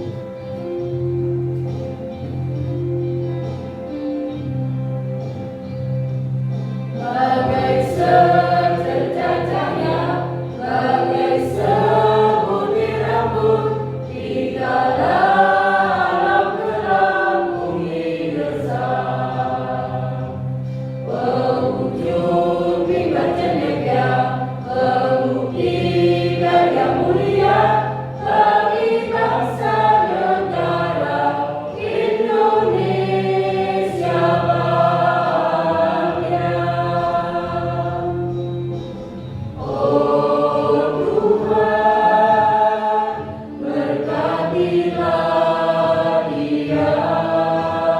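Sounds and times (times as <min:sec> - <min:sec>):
instrumental accompaniment: 0:00.0 - 0:47.9
choir singing in parts: 0:06.9 - 0:47.9.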